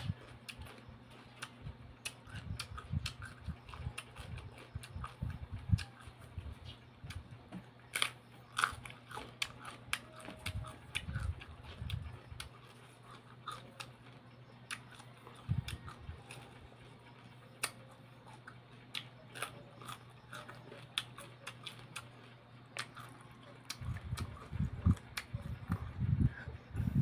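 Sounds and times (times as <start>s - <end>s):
cucumber chewing crunches: 0.0s - 27.0s
low steady hum: 0.0s - 27.0s.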